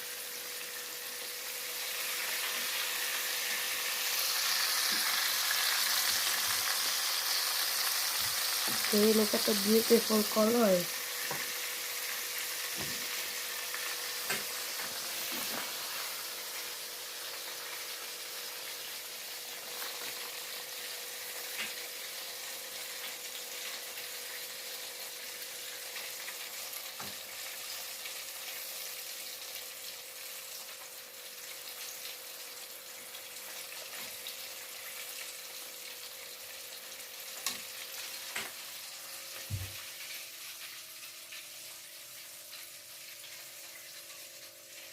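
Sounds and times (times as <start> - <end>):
chicken sizzling in hot oil: 0.0 - 44.9.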